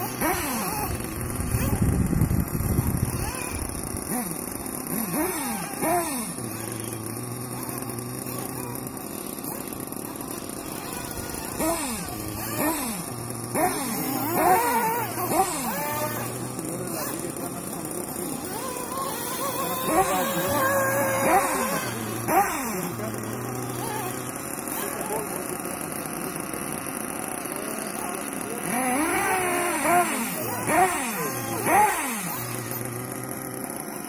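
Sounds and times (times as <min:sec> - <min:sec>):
rc buggy engine revving: 0:00.0 - 0:34.0
steady low hum: 0:00.0 - 0:34.0.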